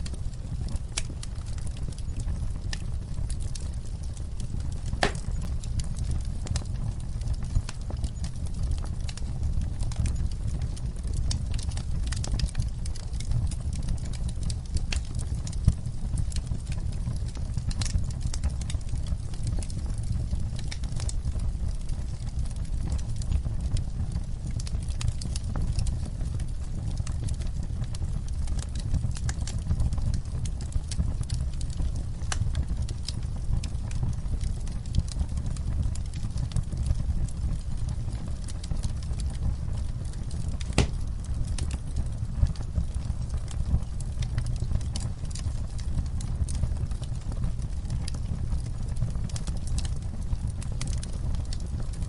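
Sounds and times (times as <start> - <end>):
campfire rumble: 0.0 - 52.0
wood crackling and popping: 0.0 - 52.0.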